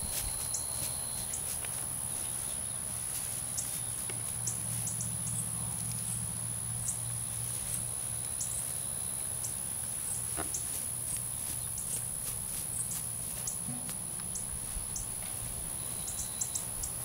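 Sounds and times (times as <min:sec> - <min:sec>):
insects chirring: 0:00.0 - 0:17.0
low steady hum: 0:00.0 - 0:17.0.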